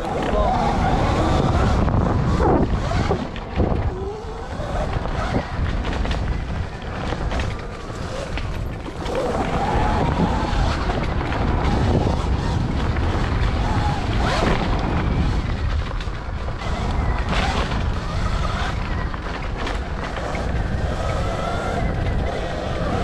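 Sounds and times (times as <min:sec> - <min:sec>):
dirt bike engine: 0:00.0 - 0:23.0
wind rumble on microphone: 0:00.0 - 0:23.0.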